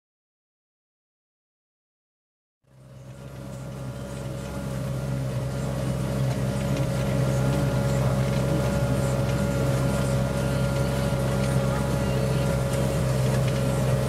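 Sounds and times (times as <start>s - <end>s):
tractor diesel engine under load: 2.7s - 14.0s.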